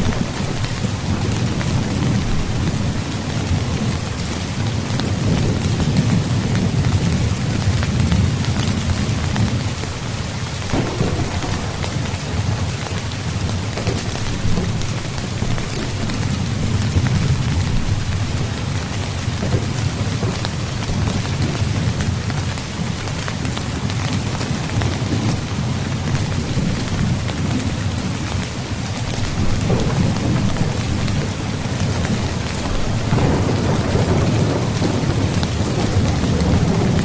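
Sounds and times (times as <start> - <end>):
rain pattering on a tent: 0.0 - 37.0.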